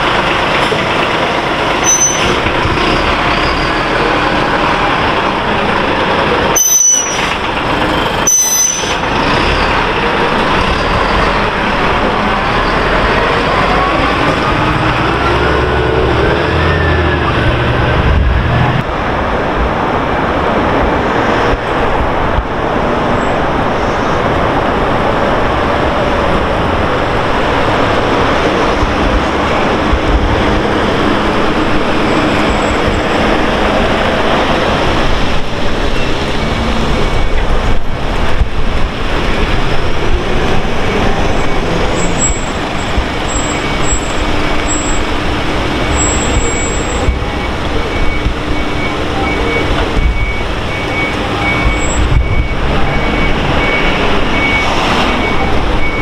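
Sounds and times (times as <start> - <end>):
diesel truck engine pulling away: 0.0 - 56.0
street traffic noise: 0.0 - 56.0
van driving up: 0.0 - 56.0.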